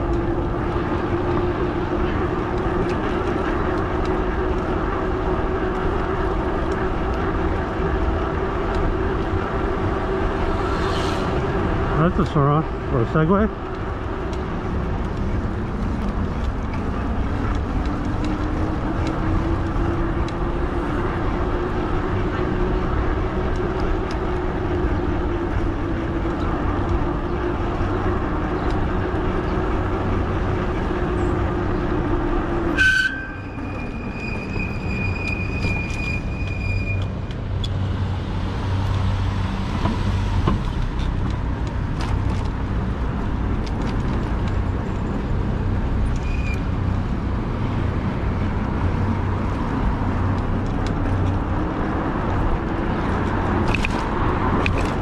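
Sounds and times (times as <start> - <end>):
road rumble: 0.0 - 55.0
wind: 0.0 - 55.0.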